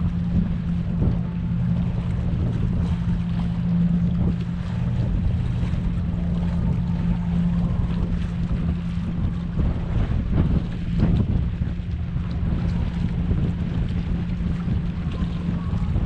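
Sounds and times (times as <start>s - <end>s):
low hum over rumble: 0.0s - 16.0s
wind buffeting microphone: 0.0s - 16.0s.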